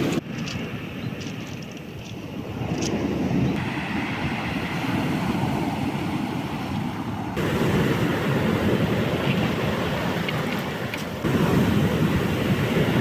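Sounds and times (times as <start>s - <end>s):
wind buffeting microphone: 0.0s - 13.0s
rough surf breaking on shore: 2.4s - 13.0s.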